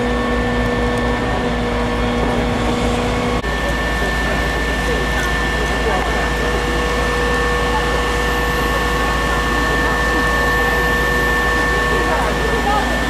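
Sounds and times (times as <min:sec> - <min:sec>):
hydraulic boom whining: 0:00.0 - 0:13.0
truck engine and hydraulics rumbling: 0:00.0 - 0:13.0.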